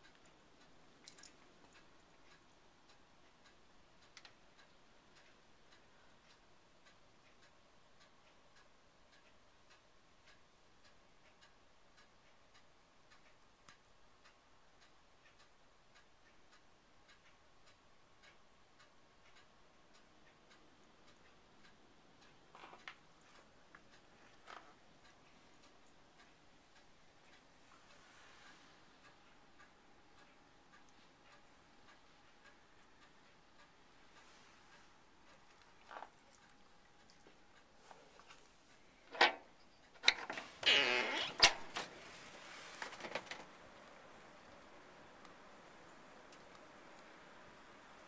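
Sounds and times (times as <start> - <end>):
faint ticking: 0.0 - 48.0.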